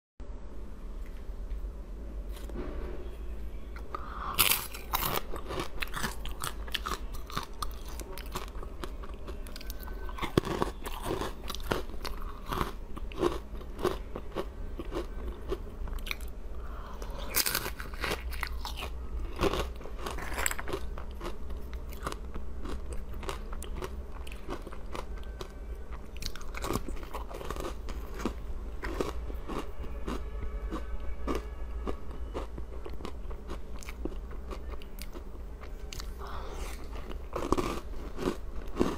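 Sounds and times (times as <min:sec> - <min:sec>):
crunching and chewing ice: 0:03.8 - 0:38.9.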